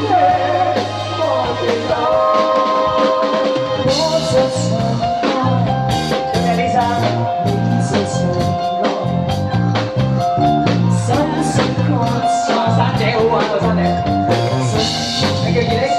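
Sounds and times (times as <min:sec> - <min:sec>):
drum kit: 0:00.0 - 0:15.9
person singing: 0:00.0 - 0:15.9
repeating bass line: 0:00.0 - 0:15.9
upbeat band music: 0:00.0 - 0:15.9.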